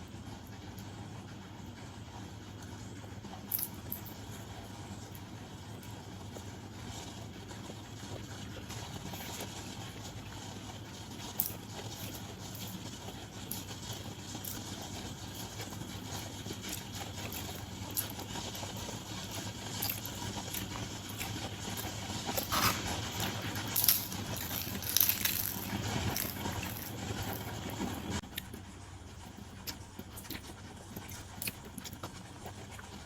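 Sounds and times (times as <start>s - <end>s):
person chewing and crunching: 3.3s - 10.2s, 11.0s - 33.0s.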